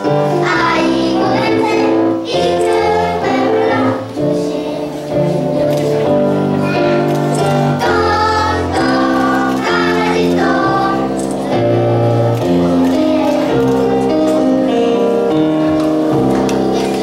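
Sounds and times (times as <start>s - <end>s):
children singing: 0.0s - 14.6s, 16.4s - 17.0s
instrumental accompaniment: 0.0s - 17.0s.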